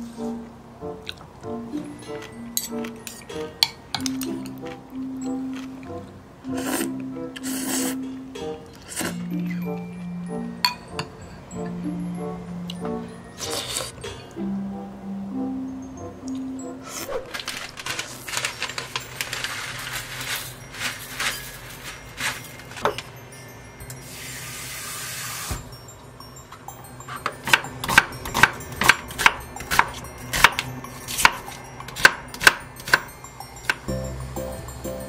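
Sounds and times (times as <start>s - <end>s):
music: 0.0s - 35.0s.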